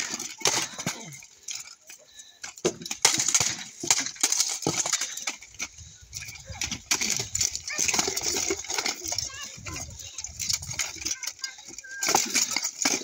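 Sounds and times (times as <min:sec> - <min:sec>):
plate armour clanking: 0:00.0 - 0:01.8, 0:02.4 - 0:09.6, 0:10.2 - 0:13.0.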